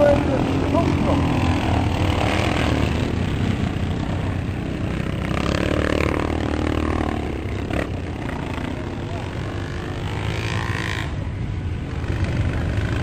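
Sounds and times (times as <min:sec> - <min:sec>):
motocross engines racing: 0:00.0 - 0:13.0.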